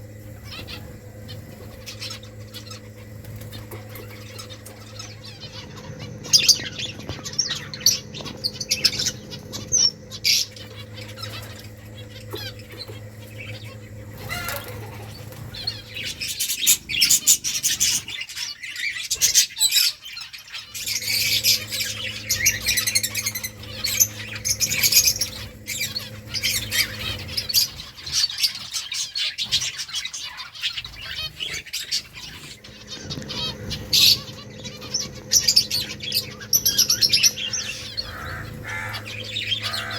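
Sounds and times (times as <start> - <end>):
wings fluttering: 0.0 - 19.7, 20.5 - 39.9
finches chirping: 0.0 - 39.9.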